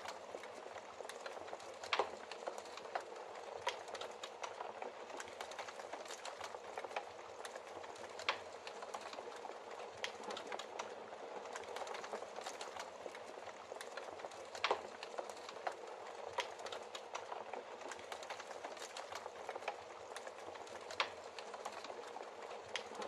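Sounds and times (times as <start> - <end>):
wood crackling and popping: 0.0 - 23.0.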